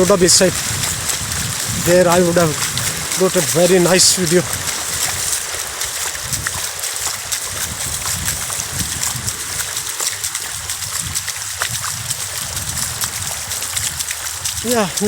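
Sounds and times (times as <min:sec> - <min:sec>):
sea water washing at shoreline: 0:00.0 - 0:15.0
small water splashes: 0:00.0 - 0:15.0.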